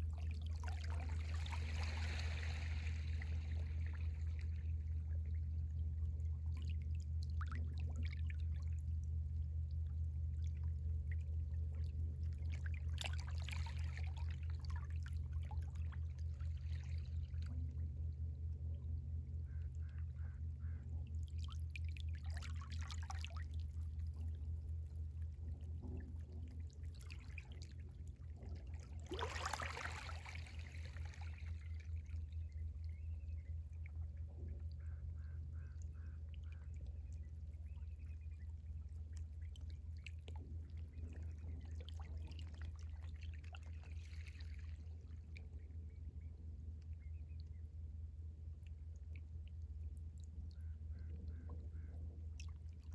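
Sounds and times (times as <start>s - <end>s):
seawater lapping at the shore: 0.0s - 52.9s
steady low rumble: 0.0s - 52.9s.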